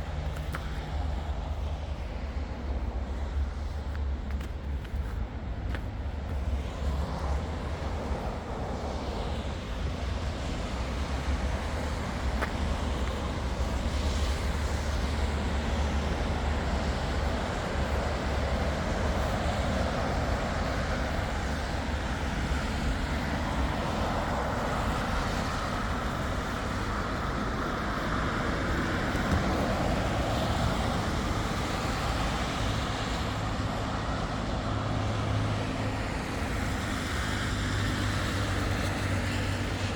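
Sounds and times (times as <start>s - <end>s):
vehicles driving past: 0.0s - 39.9s.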